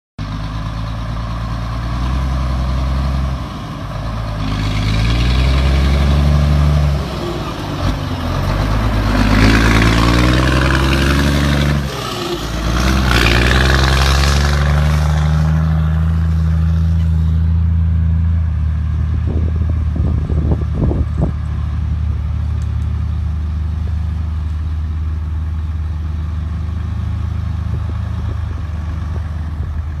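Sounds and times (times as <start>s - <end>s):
truck diesel engine revving and idling: 0.2s - 30.0s.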